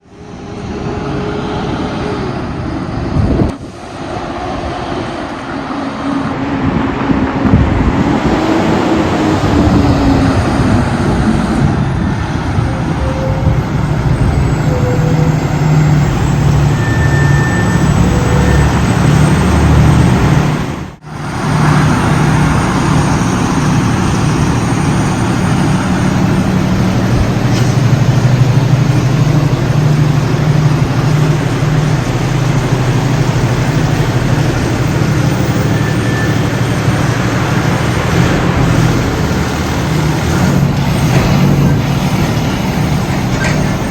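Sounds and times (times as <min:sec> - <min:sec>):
diesel engine rumbling: 0:00.0 - 0:43.9.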